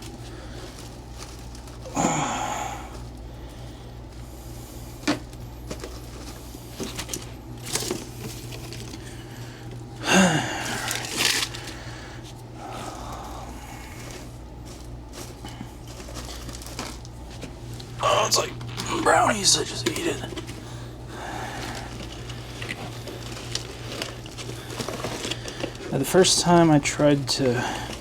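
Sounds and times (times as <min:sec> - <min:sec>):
plastic plant pots rustling: 0:00.0 - 0:10.0, 0:10.6 - 0:28.0
steady low hum: 0:00.0 - 0:28.0.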